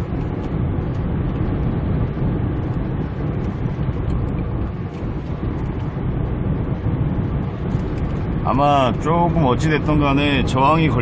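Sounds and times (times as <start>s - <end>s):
diesel engine rumble: 0.0s - 11.0s
tyres on road: 0.0s - 11.0s.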